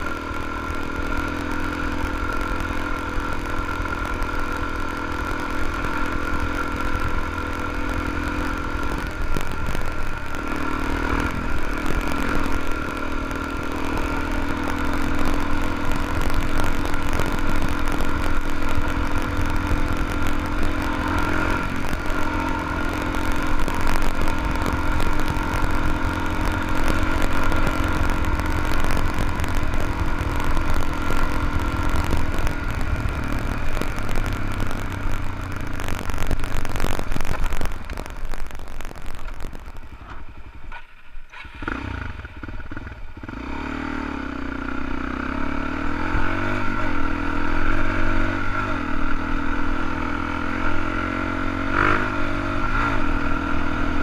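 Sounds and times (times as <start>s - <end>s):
motorcycle engine running: 0.0s - 54.0s
tyres on gravel road: 0.0s - 54.0s.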